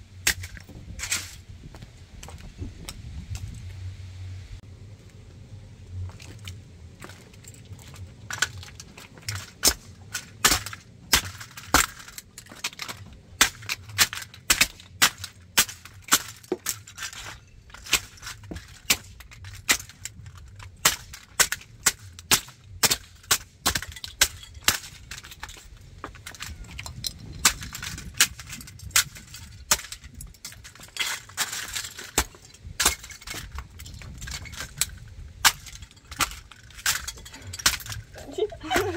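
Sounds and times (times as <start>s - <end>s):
plastic parts cracking and snapping: 6.1s - 38.9s.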